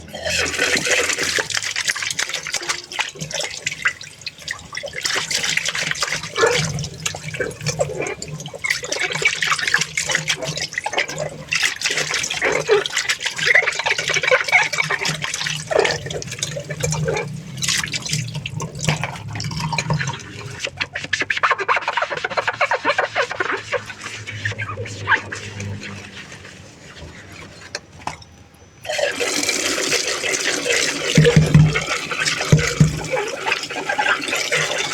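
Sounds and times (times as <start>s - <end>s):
tap water running and splashing: 0.0s - 34.9s.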